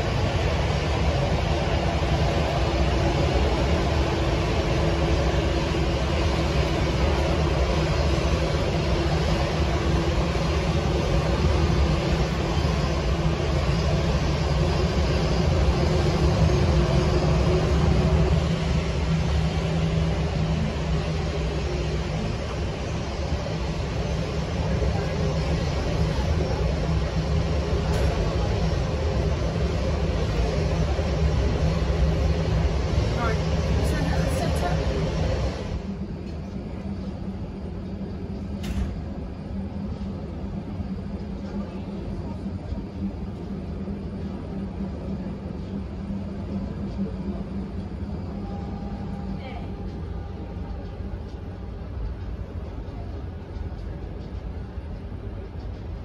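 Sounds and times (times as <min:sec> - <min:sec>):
droning hum: 0:00.0 - 0:56.0
low mechanical rumble: 0:00.0 - 0:56.0.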